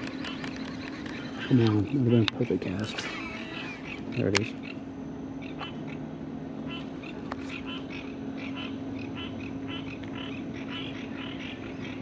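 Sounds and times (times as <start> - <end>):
frogs calling: 0.0 - 12.0
steady low hum: 0.0 - 12.0.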